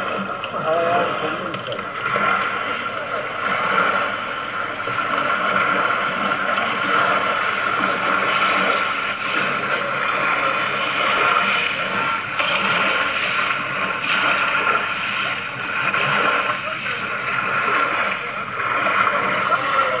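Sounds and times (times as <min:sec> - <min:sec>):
waves lapping on stony shore: 0:00.0 - 0:20.0.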